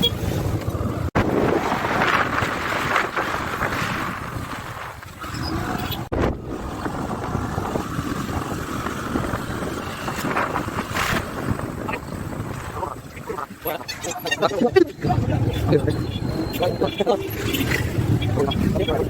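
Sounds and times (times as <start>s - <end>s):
wind buffeting microphone: 0.3s - 19.0s.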